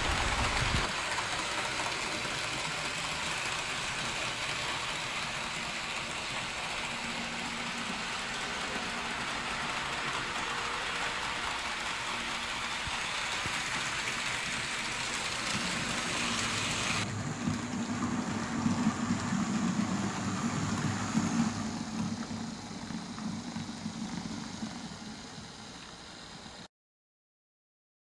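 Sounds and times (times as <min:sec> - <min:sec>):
model train running on track: 0:00.0 - 0:26.7
wheels clicking on rails: 0:00.0 - 0:26.7.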